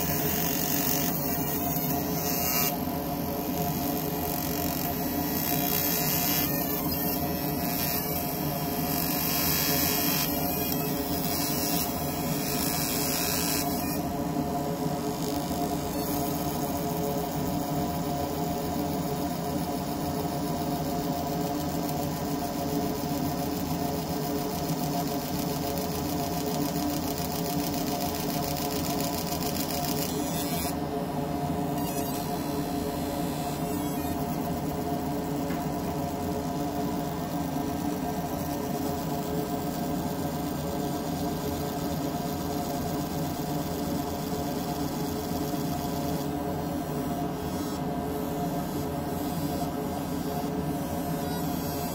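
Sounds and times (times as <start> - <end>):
laser engraver hiss: 0.0 - 14.1, 14.7 - 30.8, 31.6 - 51.9
steady machine hum: 0.0 - 51.9.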